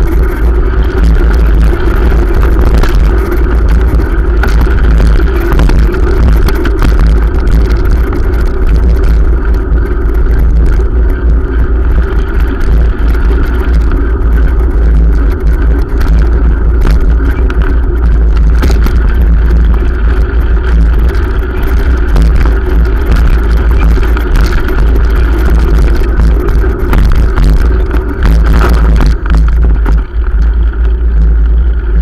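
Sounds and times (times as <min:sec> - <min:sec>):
road rumble: 0:00.0 - 0:32.0
wind buffeting microphone: 0:00.0 - 0:32.0.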